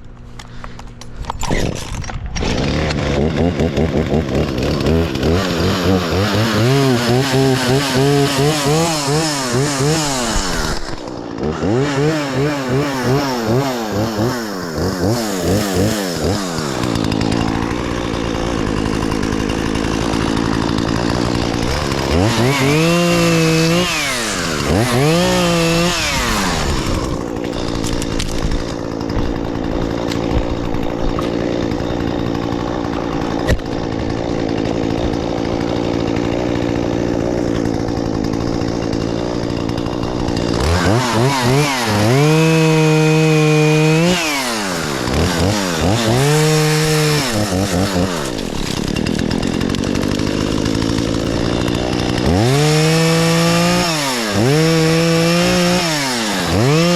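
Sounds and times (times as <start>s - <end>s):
chainsaw revving: 0.4s - 56.9s.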